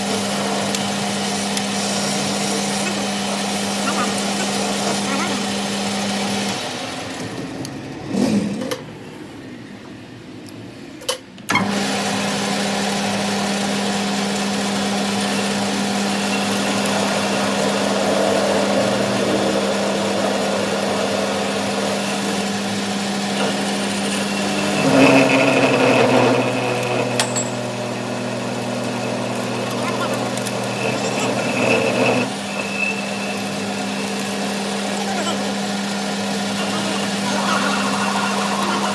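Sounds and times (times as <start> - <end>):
machine motor humming: 0.0 - 8.7, 13.2 - 38.9.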